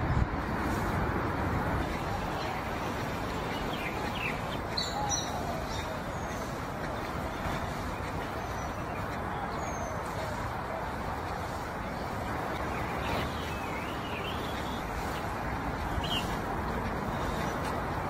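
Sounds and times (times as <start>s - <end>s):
outdoor background noise: 0.0s - 18.0s
small birds chirping: 0.6s - 18.0s.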